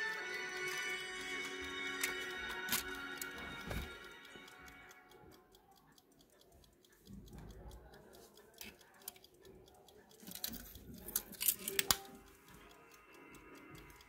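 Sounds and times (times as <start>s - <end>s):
pocket watches ticking: 0.0s - 14.0s.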